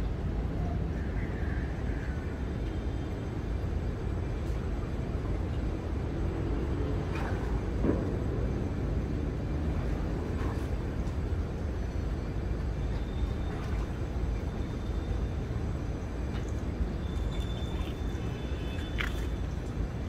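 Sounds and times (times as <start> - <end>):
city background rumble: 0.0 - 20.0.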